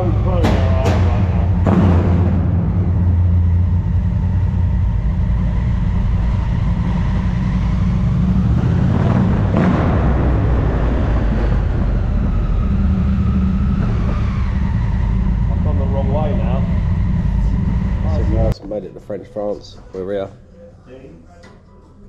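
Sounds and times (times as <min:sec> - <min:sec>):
motorcycle engine drone: 0:00.0 - 0:18.6
rushing noise: 0:00.0 - 0:18.6.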